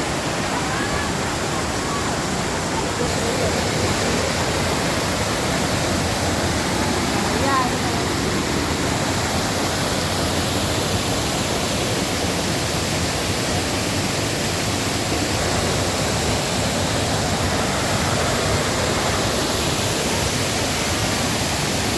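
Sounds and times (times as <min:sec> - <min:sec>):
waterfall crashing: 0:00.0 - 0:21.9.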